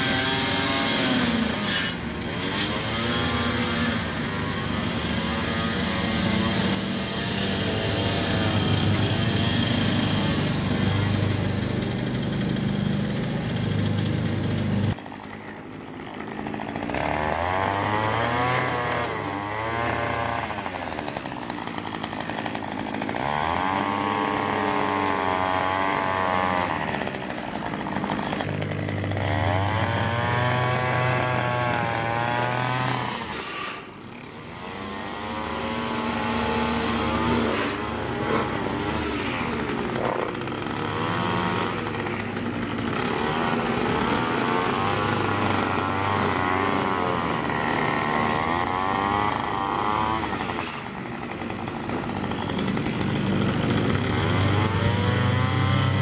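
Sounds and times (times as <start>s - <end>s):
string trimmer engine revving: 0.0s - 56.0s.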